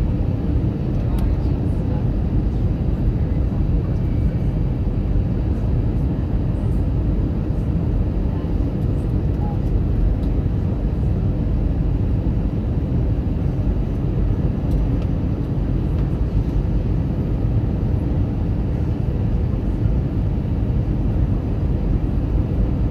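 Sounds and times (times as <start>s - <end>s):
airplane in flight rumble: 0.0s - 22.9s.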